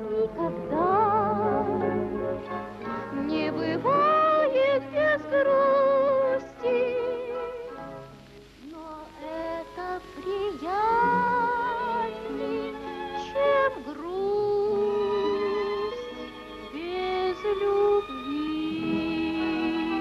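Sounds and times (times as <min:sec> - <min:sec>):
woman singing with vibrato: 0:00.0 - 0:02.1, 0:03.1 - 0:07.9, 0:08.7 - 0:20.0
instrumental accompaniment: 0:00.0 - 0:20.0.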